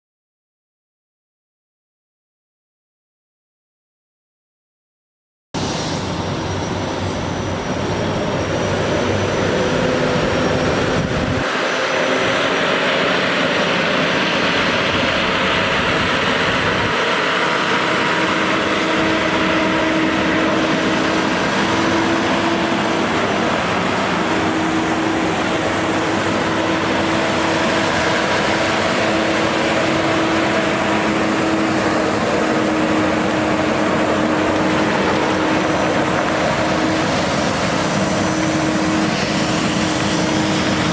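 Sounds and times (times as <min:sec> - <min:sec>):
vehicle engine running: 0:05.8 - 0:40.9.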